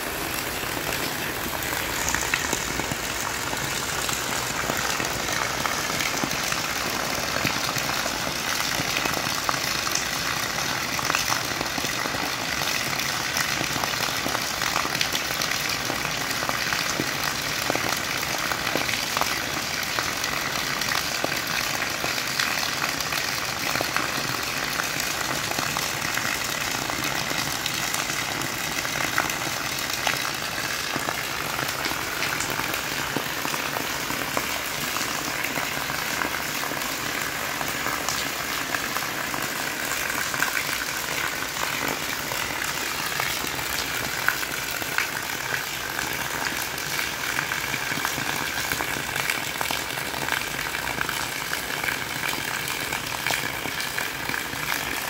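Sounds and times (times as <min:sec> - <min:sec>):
rain on gravel: 0:00.0 - 0:55.0.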